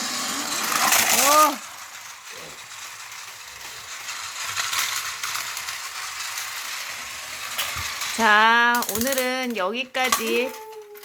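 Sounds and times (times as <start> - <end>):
toy train motor whirring: 0.0 - 11.0
wheels rattling on plastic track: 0.0 - 11.0.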